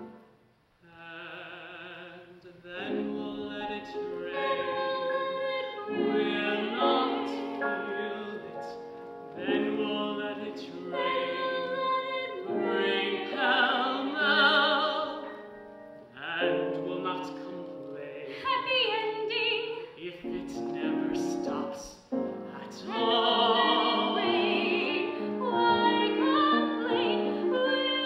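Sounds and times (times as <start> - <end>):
wordless singing in harmony: 0.9 - 28.0.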